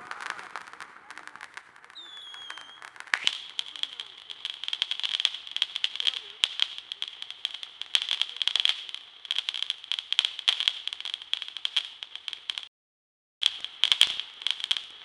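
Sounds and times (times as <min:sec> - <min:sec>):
crackling firework: 0:00.0 - 0:12.7, 0:13.4 - 0:15.0.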